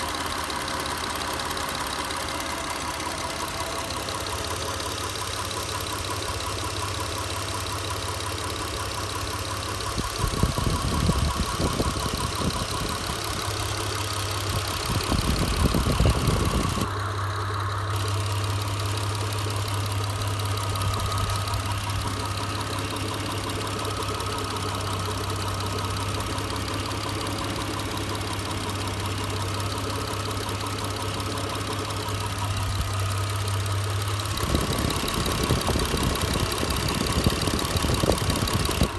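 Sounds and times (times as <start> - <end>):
car engine idling: 0.0 - 38.9
knocking in engine: 0.1 - 38.9.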